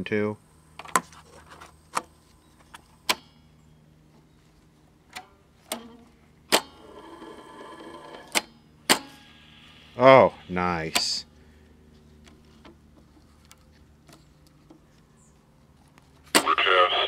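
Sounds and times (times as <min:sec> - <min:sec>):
faint tape machine running: 0:01.7 - 0:17.0.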